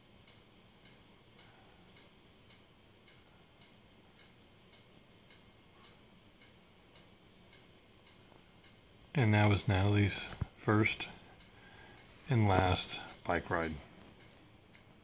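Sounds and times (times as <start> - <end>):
faint even ticking: 0.0 - 15.0.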